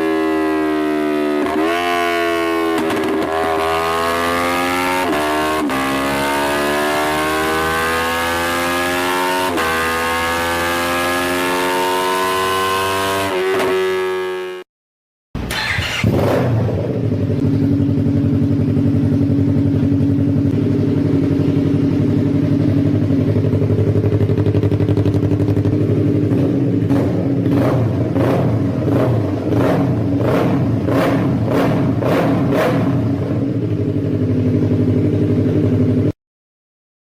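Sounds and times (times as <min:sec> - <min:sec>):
motorcycle engine revving: 0:00.0 - 0:14.7, 0:15.4 - 0:36.2.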